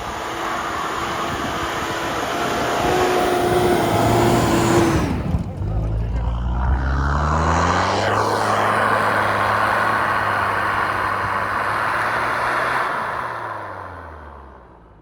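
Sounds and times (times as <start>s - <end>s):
pickup engine revving hard: 0.0s - 5.3s, 6.4s - 14.8s.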